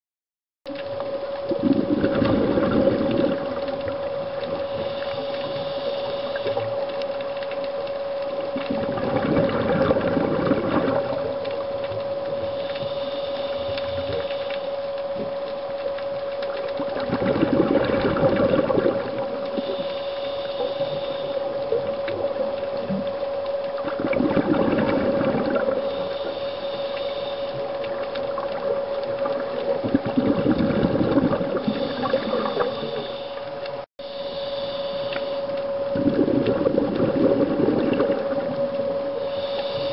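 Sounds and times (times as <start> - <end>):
steady hum: 0.7 - 39.9
underwater exhaled bubbles: 0.7 - 39.9.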